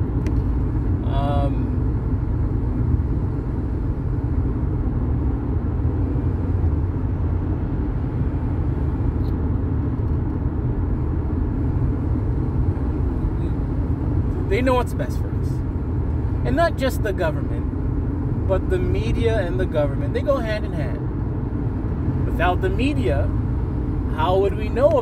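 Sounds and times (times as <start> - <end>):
car interior road and engine noise: 0.0 - 25.0.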